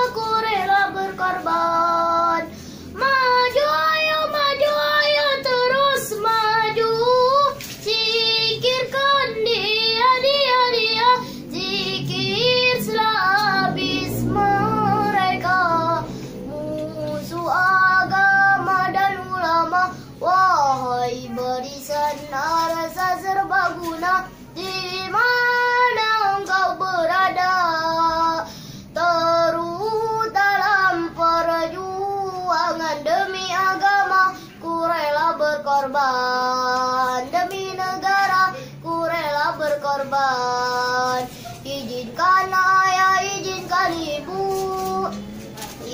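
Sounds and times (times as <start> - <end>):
boy singing: 0.0 - 45.9.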